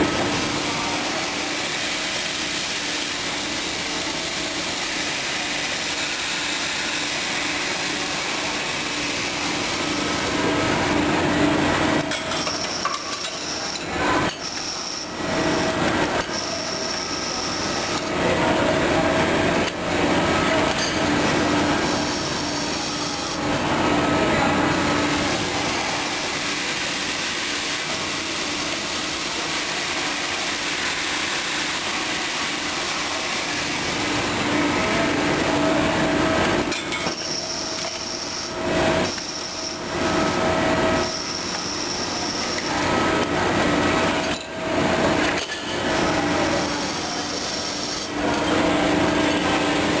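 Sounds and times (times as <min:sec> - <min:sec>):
high machine whine: 0:00.0 - 0:50.0.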